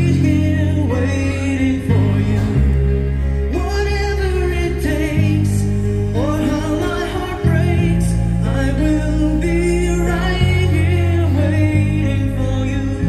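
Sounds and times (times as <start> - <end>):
song with singer over loudspeakers: 0.0 - 13.0.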